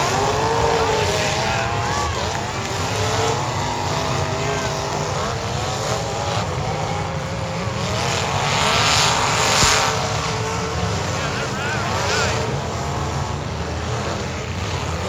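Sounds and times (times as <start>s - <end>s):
car engines revving: 0.0s - 15.0s
rush of noise: 0.0s - 15.0s.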